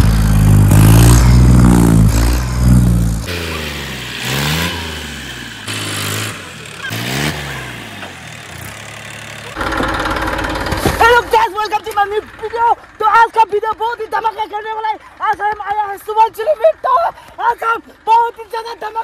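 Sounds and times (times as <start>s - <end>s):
tractor engine revving: 0.0s - 19.0s.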